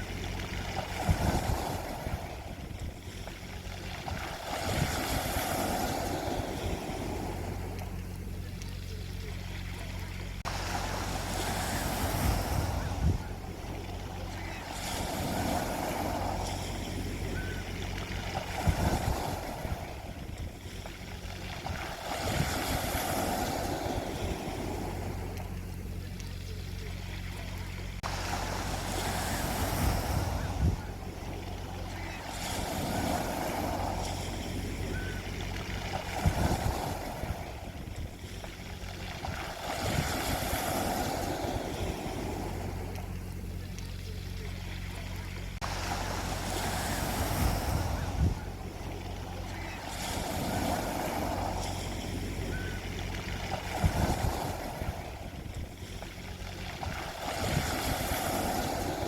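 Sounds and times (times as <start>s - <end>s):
sea waves washing onto beach: 0.0s - 59.0s
steady low rumble: 0.0s - 59.0s.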